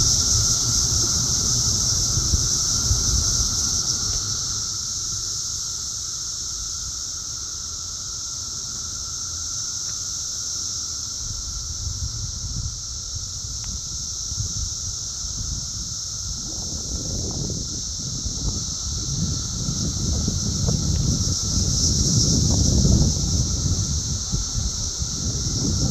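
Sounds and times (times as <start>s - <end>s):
cicadas buzzing: 0.0s - 25.9s.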